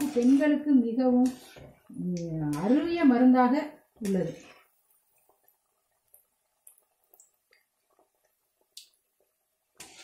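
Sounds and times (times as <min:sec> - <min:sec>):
crackles and pops of deep-frying: 0:00.0 - 0:10.0.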